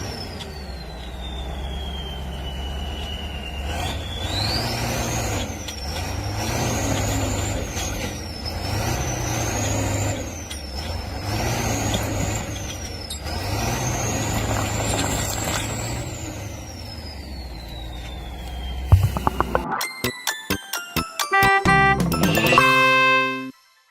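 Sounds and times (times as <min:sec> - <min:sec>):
engine accelerating with whine: 0:00.0 - 0:19.8.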